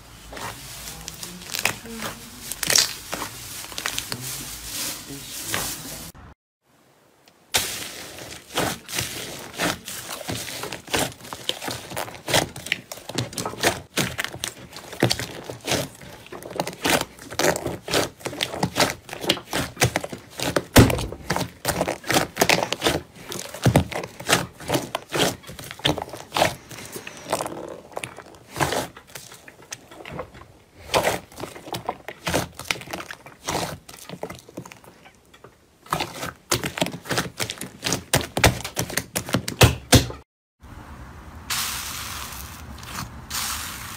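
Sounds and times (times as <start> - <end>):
slime squelching and popping: 0.3 - 4.2, 7.5 - 35.1, 35.9 - 40.1.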